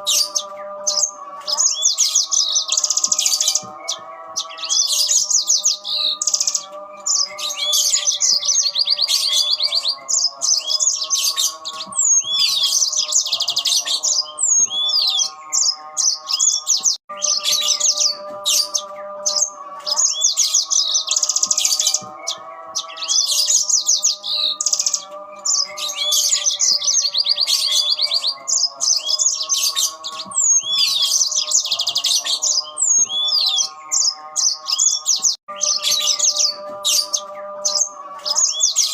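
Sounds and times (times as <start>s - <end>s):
canaries chirping trills: 0.0s - 38.9s.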